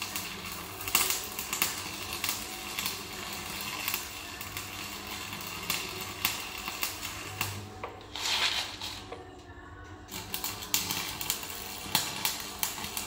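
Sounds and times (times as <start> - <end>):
arc welding crackle and pops: 0.0 - 9.4, 10.0 - 13.0.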